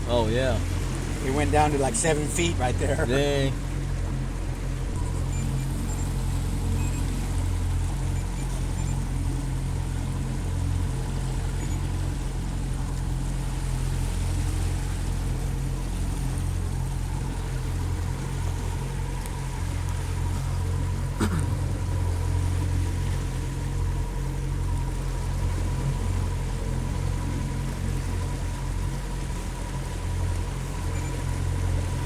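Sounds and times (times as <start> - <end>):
boat motor running: 0.0 - 32.0
water rushing around hull: 0.0 - 32.0.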